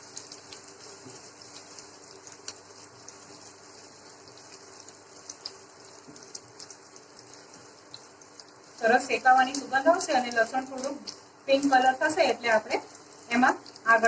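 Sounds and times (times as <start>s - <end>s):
small crackles and pops: 0.0s - 11.8s, 12.7s - 14.0s
spices sizzling in hot oil: 0.0s - 14.0s.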